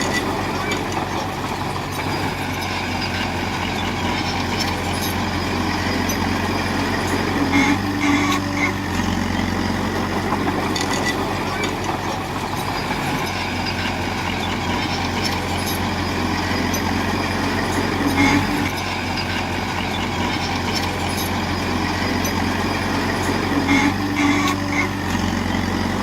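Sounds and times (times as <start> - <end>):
diesel construction machinery: 0.0 - 26.0
high-pitched whines: 0.0 - 26.0.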